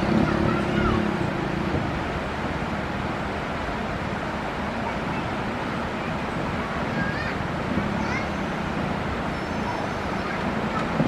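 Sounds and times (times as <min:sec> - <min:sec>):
excavator diesel engine running: 0:00.0 - 0:11.0
rushing noise: 0:00.0 - 0:11.0.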